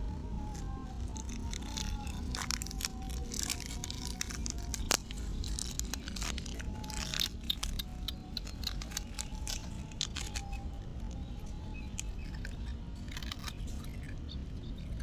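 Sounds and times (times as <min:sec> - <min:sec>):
plastic packet crinkling: 0:00.0 - 0:14.3
puppies crunching crackers: 0:00.0 - 0:15.0.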